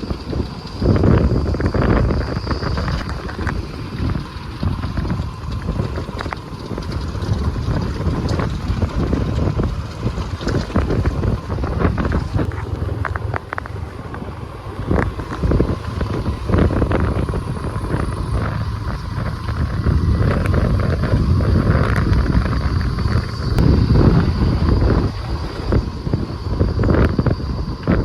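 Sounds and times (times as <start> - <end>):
vehicle on rough track: 0.0 - 28.0
wind buffeting microphone: 0.0 - 28.0.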